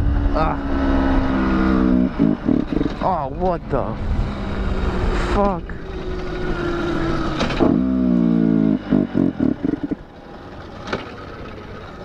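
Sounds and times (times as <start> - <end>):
dirt bike engine stuttering: 0.0 - 12.0.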